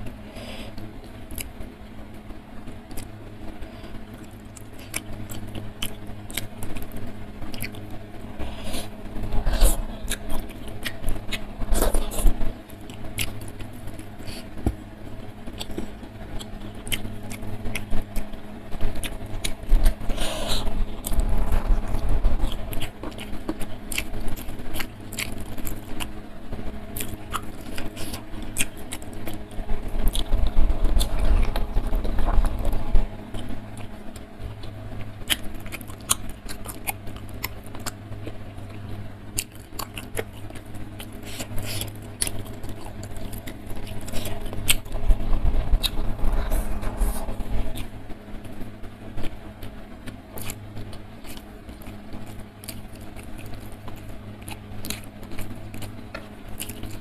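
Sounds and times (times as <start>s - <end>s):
wet chewing and mouth sounds: 0.0s - 1.6s, 2.7s - 57.0s
steady low hum: 0.0s - 57.0s.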